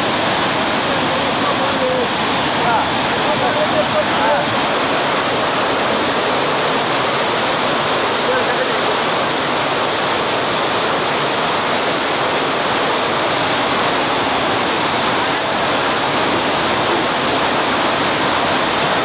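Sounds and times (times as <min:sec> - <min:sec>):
turbulent river water rushing: 0:00.0 - 0:19.0.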